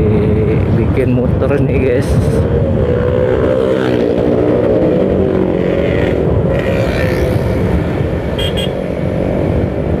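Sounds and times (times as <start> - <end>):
road and wind noise: 0.0 - 10.0.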